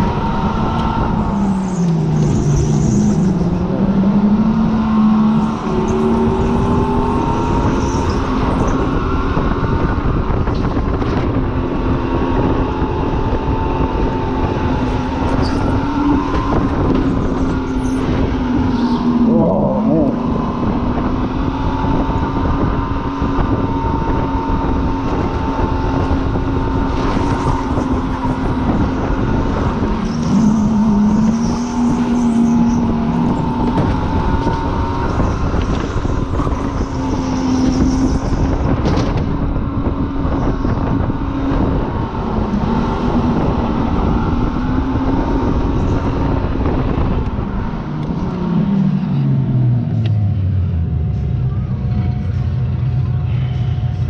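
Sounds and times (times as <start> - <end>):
supercharged car engine revving: 0.0 - 54.0.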